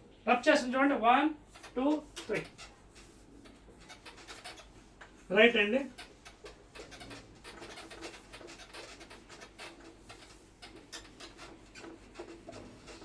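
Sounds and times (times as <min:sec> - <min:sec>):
scratchy strokes on a board: 0:01.5 - 0:13.0.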